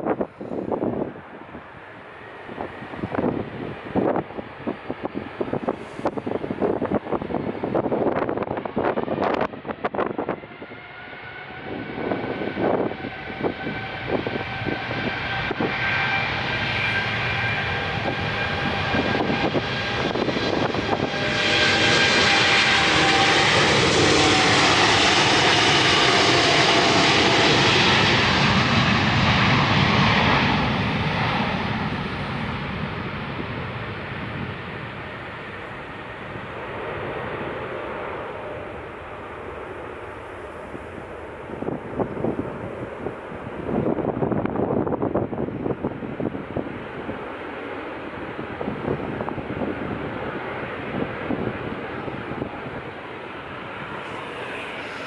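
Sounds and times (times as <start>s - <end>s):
jet airliner roar: 0.0s - 55.0s
wind buffeting microphone: 0.0s - 55.0s.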